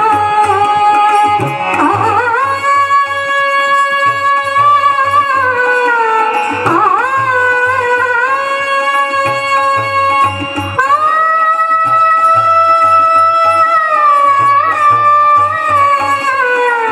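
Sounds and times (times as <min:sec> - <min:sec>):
held devotional melody: 0:00.0 - 0:16.9.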